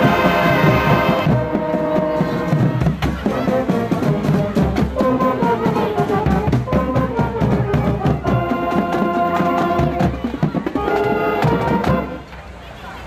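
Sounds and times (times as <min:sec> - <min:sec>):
music with steady drum beat: 0:00.0 - 0:12.2.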